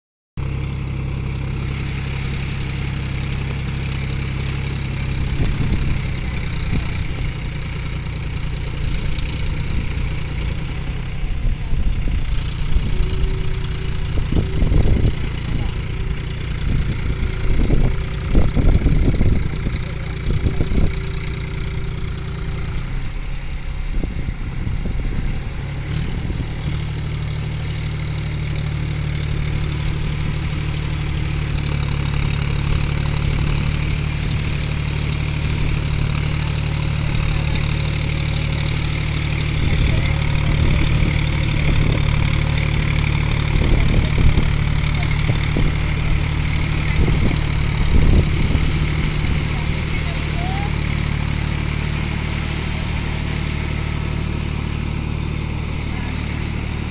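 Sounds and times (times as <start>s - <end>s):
tractor diesel engine under load: 0.4s - 56.9s.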